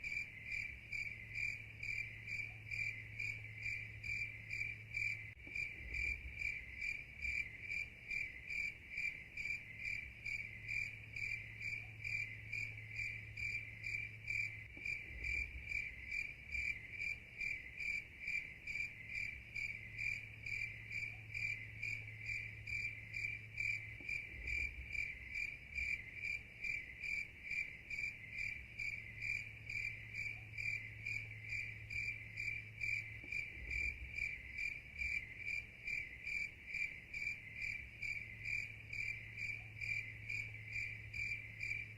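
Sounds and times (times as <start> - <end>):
insect chirping: 0.0 - 41.9.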